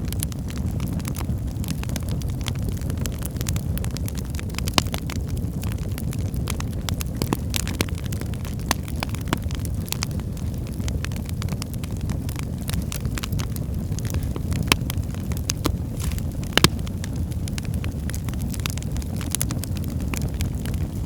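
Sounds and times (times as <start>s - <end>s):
wood fire burning and crackling: 0.0s - 21.0s.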